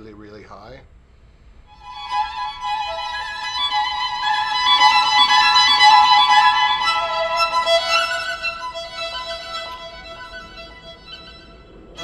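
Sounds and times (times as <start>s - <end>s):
classical violin music: 1.7s - 12.0s.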